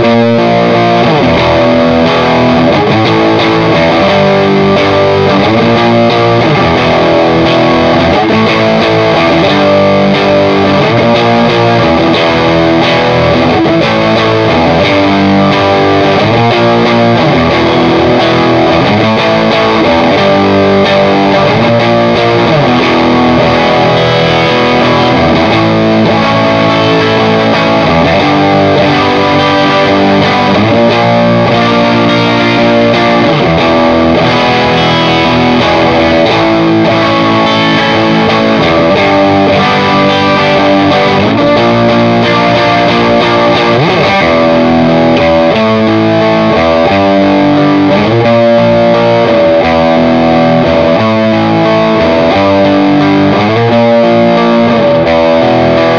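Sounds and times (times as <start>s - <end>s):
overdriven electric guitar riff: 0.0s - 55.9s.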